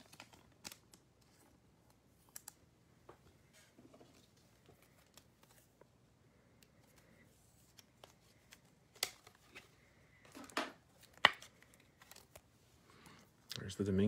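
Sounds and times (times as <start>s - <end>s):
cards and plastic holders handled: 0.0s - 13.5s.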